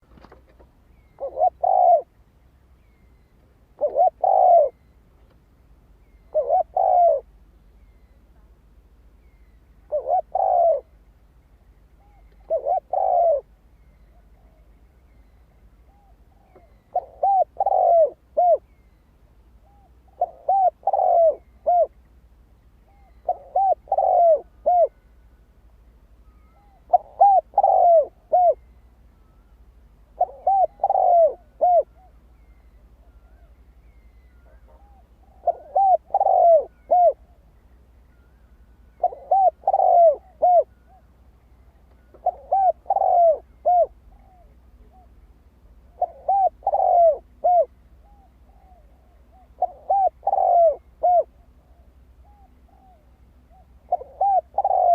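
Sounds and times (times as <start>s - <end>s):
dove cooing: 0.0s - 2.2s, 3.7s - 4.8s, 6.0s - 7.9s, 9.8s - 11.0s, 12.0s - 18.8s, 19.6s - 22.0s, 22.8s - 25.1s, 26.3s - 29.4s, 30.0s - 37.6s, 38.9s - 54.9s.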